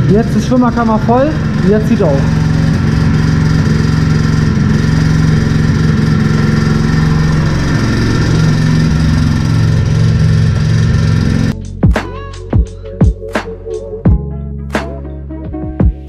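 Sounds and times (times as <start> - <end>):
scooter engine running: 0.0 - 14.2.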